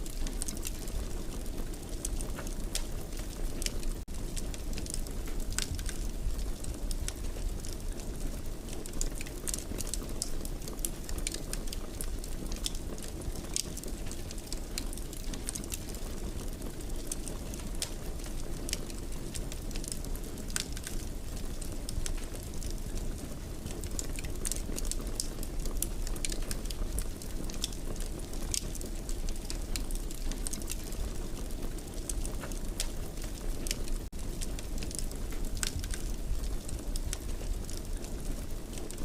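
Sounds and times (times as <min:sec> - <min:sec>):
fireplace fire crackling: 0:00.0 - 0:39.0.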